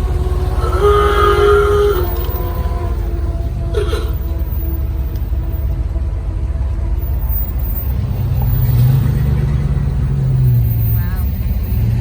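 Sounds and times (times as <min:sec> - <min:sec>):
car engine running: 0:00.0 - 0:12.0
low rumble: 0:00.0 - 0:12.0.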